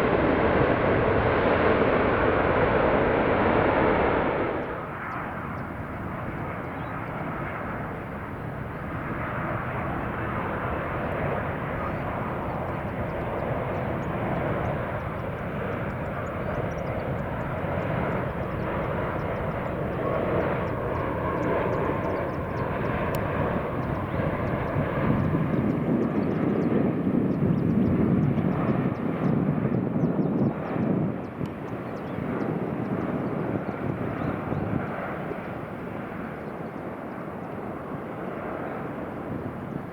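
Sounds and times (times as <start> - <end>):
jet airliner engines rushing: 0.0 - 39.9.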